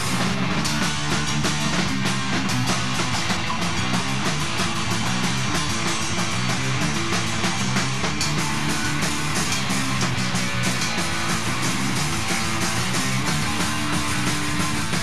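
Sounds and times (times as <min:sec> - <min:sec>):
rock band with electric guitar: 0:00.0 - 0:15.0.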